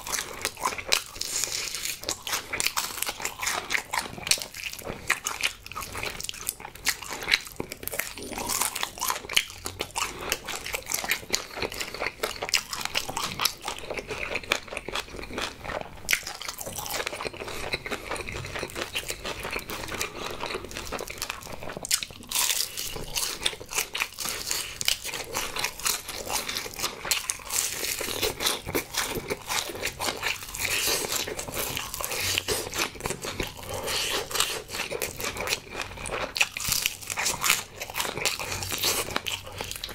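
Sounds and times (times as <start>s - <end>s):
crunching fried chicken: 0.0s - 39.9s.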